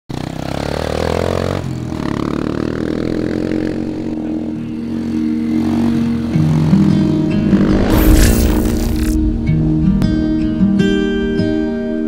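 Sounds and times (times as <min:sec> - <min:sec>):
dirt bike engine at low speed: 0:00.1 - 0:10.1.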